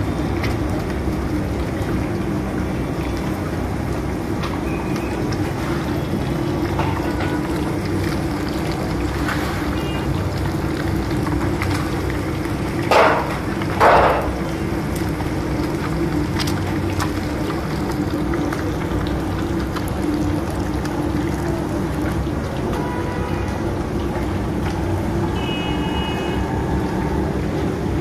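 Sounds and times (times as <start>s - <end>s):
fish sizzling in hot oil: 0.0s - 26.8s.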